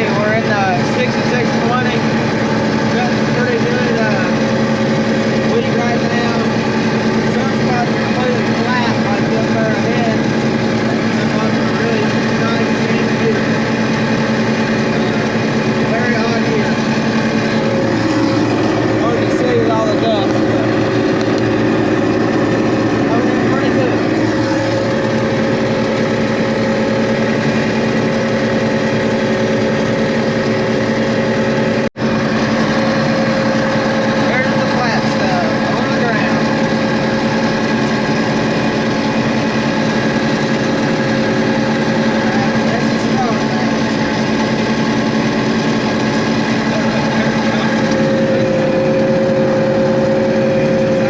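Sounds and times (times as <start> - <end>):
combine harvester engine droning: 0.0 - 51.0
high whine: 0.0 - 51.0.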